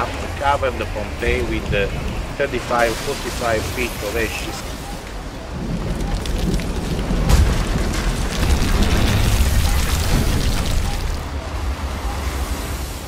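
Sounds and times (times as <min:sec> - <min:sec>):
crackling and hissing: 0:00.0 - 0:13.0
deep continuous rumble: 0:00.0 - 0:13.0.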